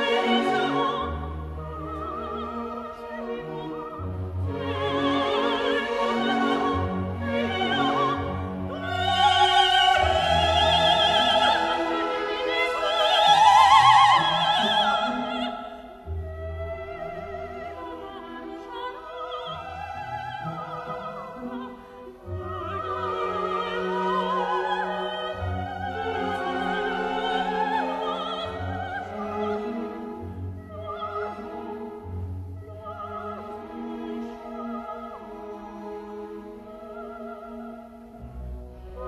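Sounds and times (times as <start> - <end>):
operatic singing: 0.0 - 32.0.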